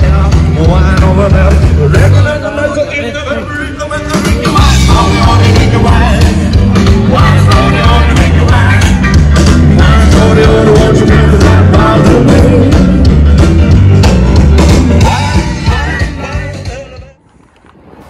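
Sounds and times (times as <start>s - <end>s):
rock song with singing: 0.0s - 17.2s.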